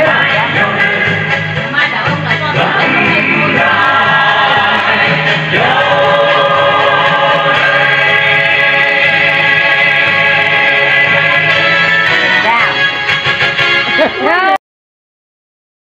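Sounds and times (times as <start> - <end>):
song with sung vocals: 0.0 - 12.9
bass line: 0.0 - 13.0.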